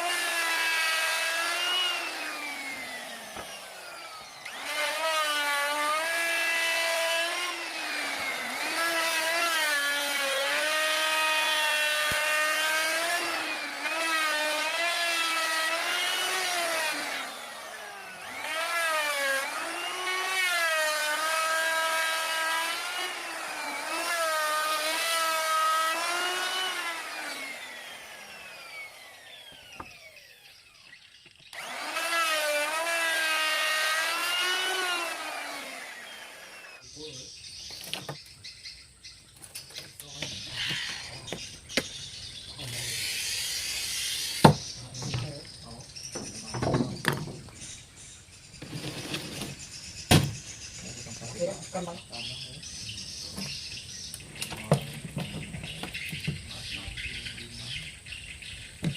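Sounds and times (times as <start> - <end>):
table saw whining: 0.0 - 37.0, 40.2 - 52.3.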